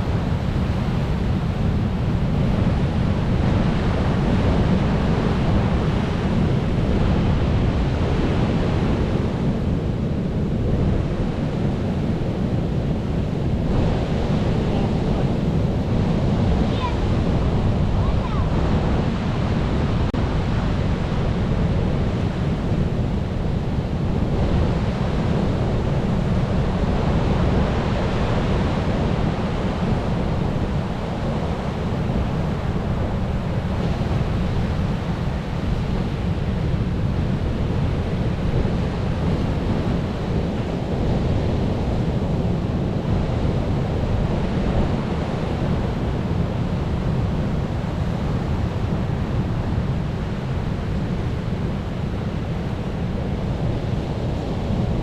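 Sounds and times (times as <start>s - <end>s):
ocean surf washing: 0.0s - 55.0s.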